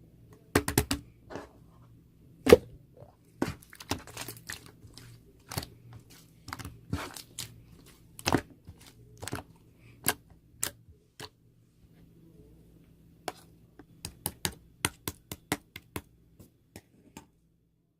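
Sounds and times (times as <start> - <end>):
faint low hum: 0.0 - 17.9.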